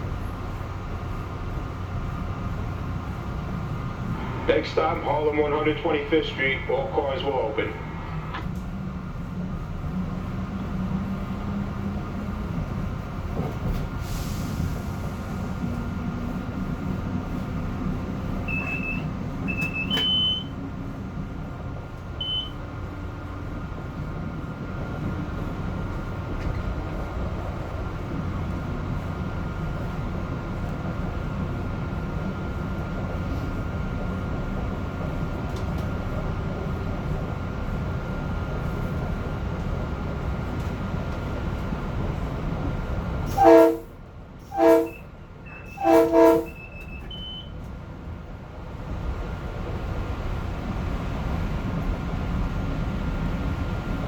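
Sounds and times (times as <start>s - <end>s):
train rumble from inside: 0.0s - 54.0s.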